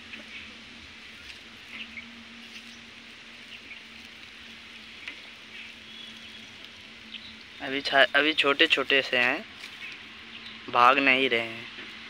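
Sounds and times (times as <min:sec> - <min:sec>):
rabbits nibbling grass: 0:00.0 - 0:12.0
steady hiss: 0:00.0 - 0:12.0.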